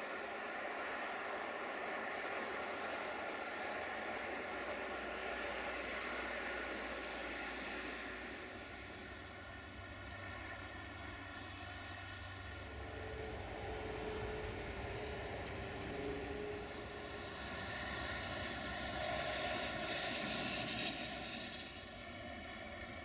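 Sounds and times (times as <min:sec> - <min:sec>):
distant diesel locomotive drone: 0:00.0 - 0:23.0.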